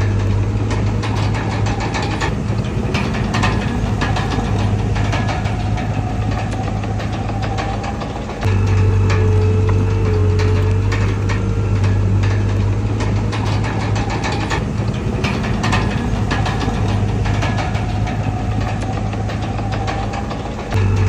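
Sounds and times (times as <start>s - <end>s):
bulldozer diesel engine running: 0.0s - 21.0s
metallic clanks and rattles: 0.0s - 21.0s.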